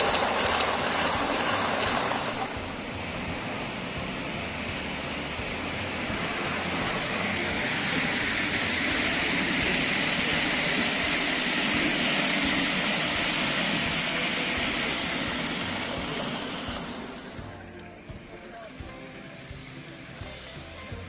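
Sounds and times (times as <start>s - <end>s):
model train running past: 0.0s - 21.0s.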